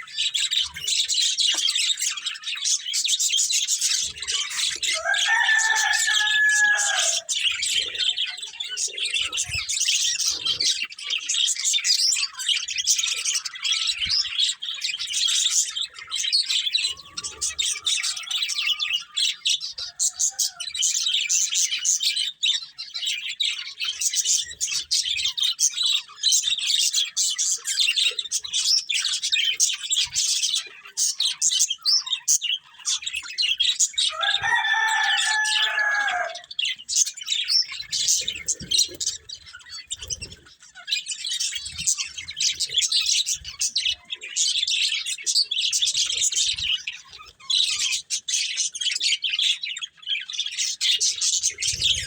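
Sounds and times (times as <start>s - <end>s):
budgerigars chattering: 0.0s - 52.0s.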